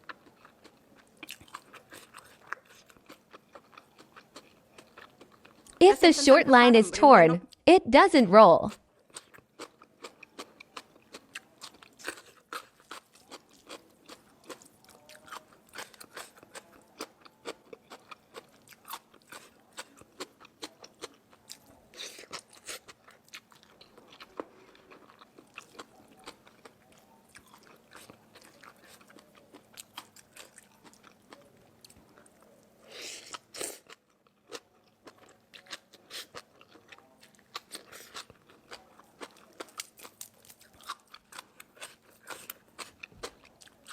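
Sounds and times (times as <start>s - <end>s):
person chewing crisp food: 0.0s - 5.8s, 8.9s - 43.9s.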